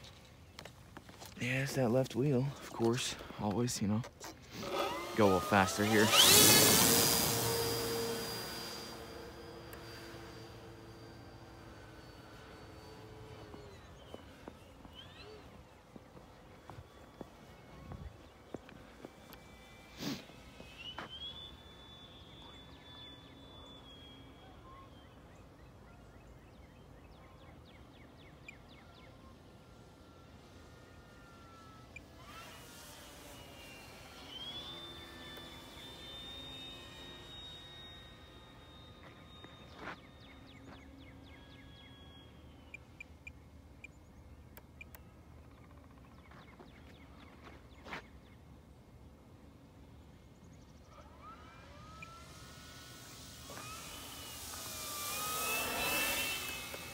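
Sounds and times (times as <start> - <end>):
low steady hum: 0.0 - 56.9
model plane motor whine: 0.0 - 56.9
small birds chirping faintly: 0.0 - 56.9.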